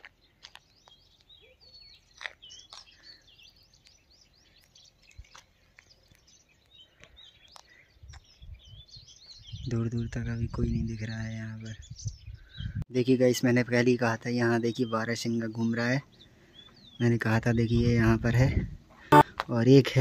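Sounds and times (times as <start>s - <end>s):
small birds chirping: 0.0s - 19.4s.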